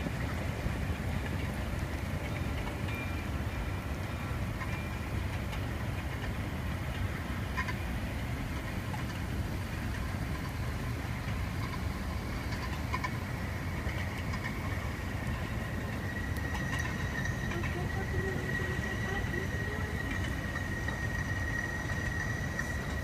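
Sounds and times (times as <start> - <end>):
rail cars rumbling on track: 0.0 - 23.0.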